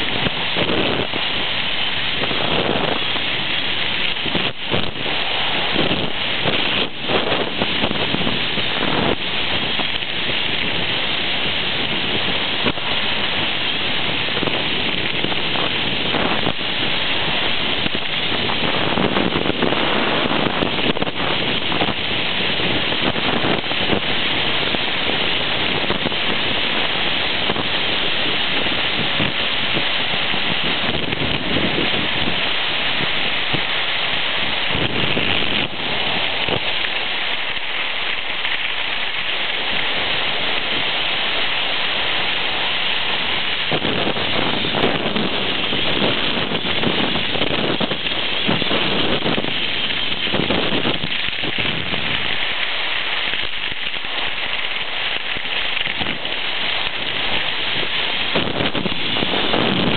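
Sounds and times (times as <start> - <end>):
skis scraping over packed snow: 0.0 - 59.9
wind on microphone: 0.0 - 59.9.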